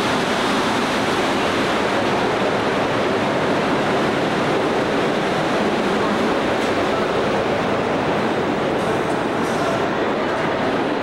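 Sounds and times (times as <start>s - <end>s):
distant crowd chatter: 1.0s - 11.0s.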